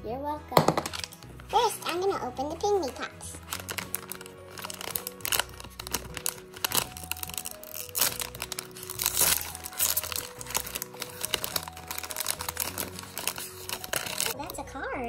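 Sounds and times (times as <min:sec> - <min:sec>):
background music: 0:00.0 - 0:15.0
plastic foil bag crinkling: 0:01.8 - 0:14.6.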